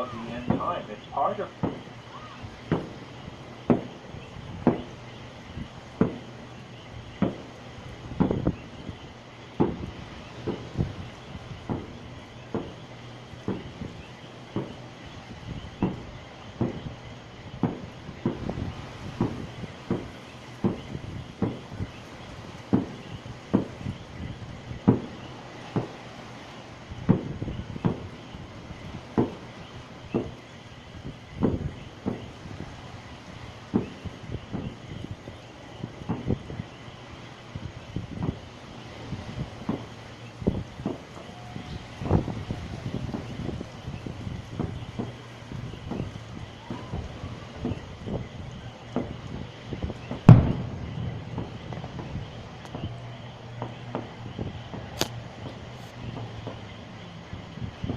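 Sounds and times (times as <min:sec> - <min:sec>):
fireworks bangs: 0:00.0 - 0:57.9.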